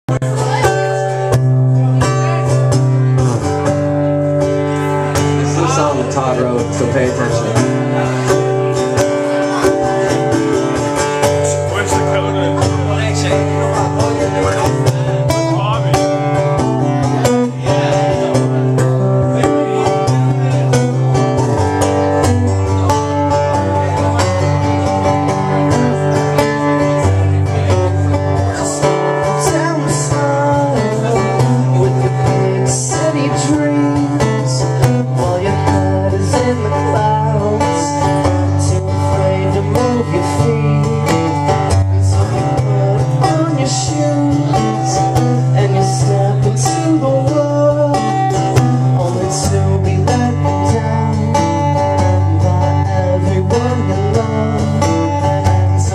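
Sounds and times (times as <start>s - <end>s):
acoustic guitar strumming: 0.1s - 55.9s
man singing: 4.7s - 55.9s.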